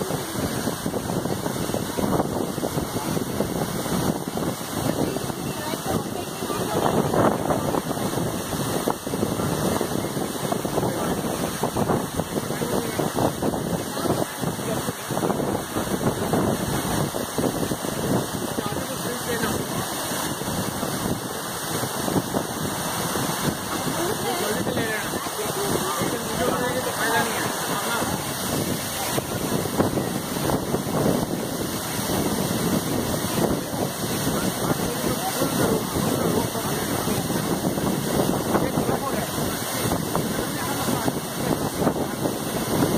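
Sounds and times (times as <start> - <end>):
waterfall rushing: 0.0 - 42.9
wind noise on microphone: 0.0 - 42.9.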